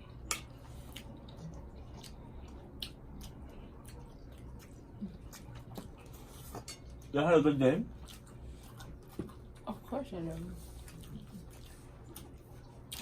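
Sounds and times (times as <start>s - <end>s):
low steady hum: 0.0s - 13.0s
soft chewing: 0.0s - 13.0s.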